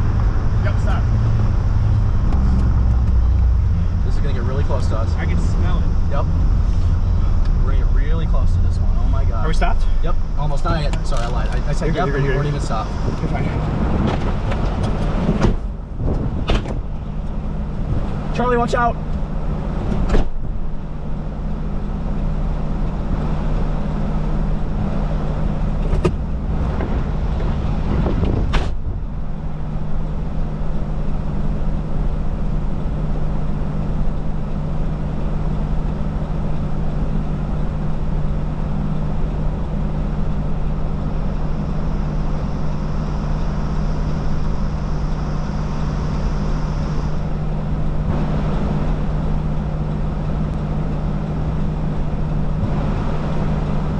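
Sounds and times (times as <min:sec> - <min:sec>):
car engine idling: 0:00.0 - 0:27.9, 0:28.8 - 0:53.9
constant rushing noise: 0:00.0 - 0:53.9.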